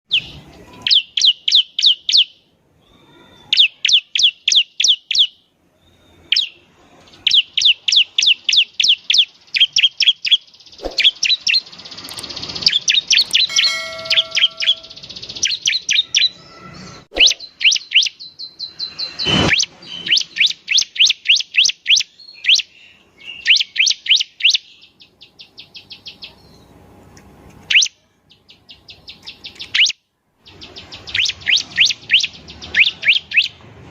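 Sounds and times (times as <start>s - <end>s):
bird high chipping song: 0.1s - 26.8s, 27.6s - 33.6s.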